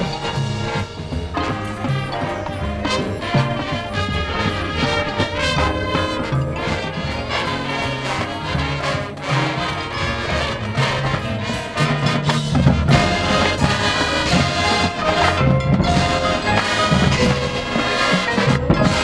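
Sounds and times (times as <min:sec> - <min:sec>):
brass horns holding chords: 0:00.0 - 0:19.0
drumline: 0:00.0 - 0:19.0
mallet percussion: 0:00.0 - 0:19.0
marching band playing: 0:00.0 - 0:19.0.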